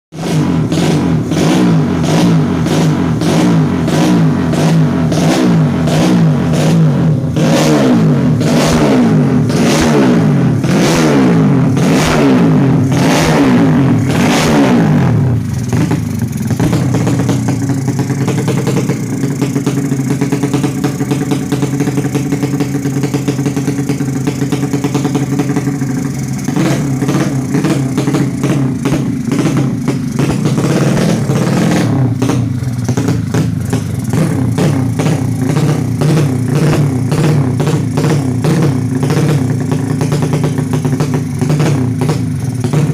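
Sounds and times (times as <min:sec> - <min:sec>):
motorcycle engine revving and idling: 0:00.1 - 0:42.9.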